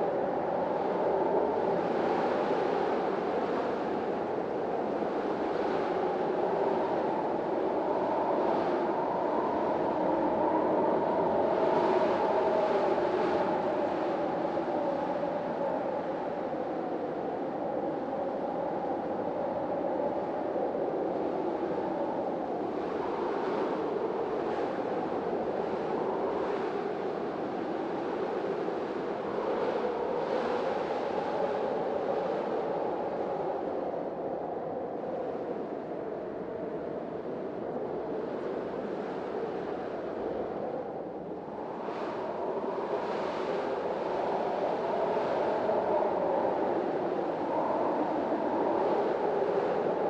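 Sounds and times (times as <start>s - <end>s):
hissing wind gusts: 0.0s - 50.0s
storm wind howling: 0.0s - 50.0s.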